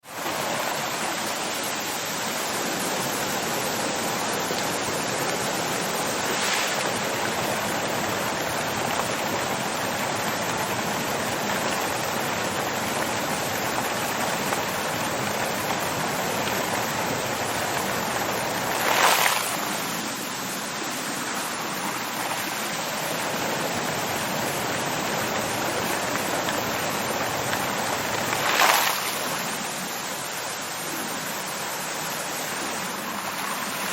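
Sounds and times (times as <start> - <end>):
water fountain splashing: 0.0 - 33.9.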